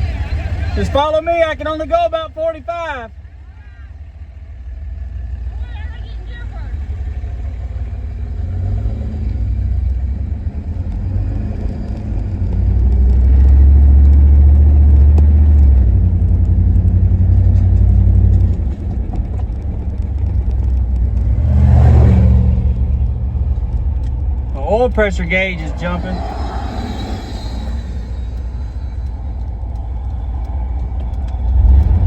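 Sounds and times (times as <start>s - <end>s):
truck engine and road noise: 0.0s - 32.0s.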